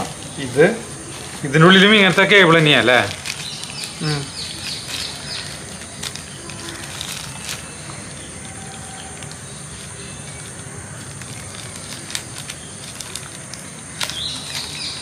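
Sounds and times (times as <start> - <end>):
high insect-like drone: 0.0 - 15.0.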